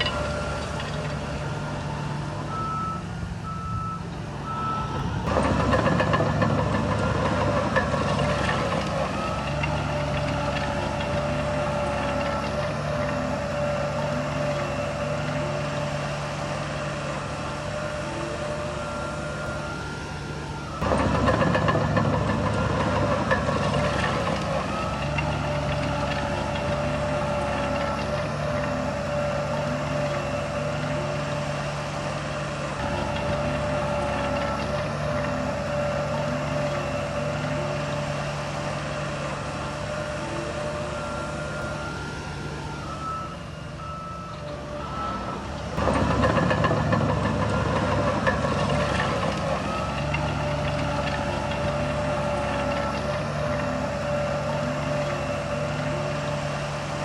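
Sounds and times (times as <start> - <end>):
reversing alarm beeping: 0.0 - 56.7
heavy diesel machinery running: 0.0 - 57.0.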